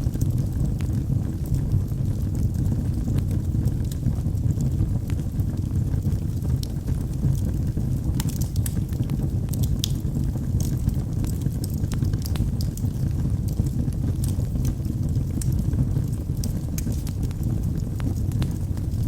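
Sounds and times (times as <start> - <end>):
burning wood crackling: 0.0 - 19.0
fire flames roaring: 0.0 - 19.0.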